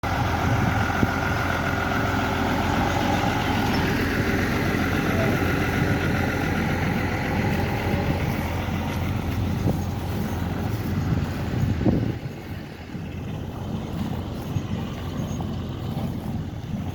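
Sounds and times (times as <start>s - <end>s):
hay baler machinery: 0.0s - 16.9s
tractor diesel engine running: 0.0s - 16.9s.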